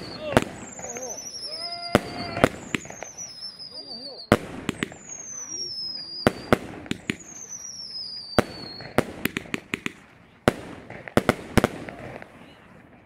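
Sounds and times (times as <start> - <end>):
fireworks bangs: 0.0 - 13.0
fireworks falling whistles: 0.0 - 13.0.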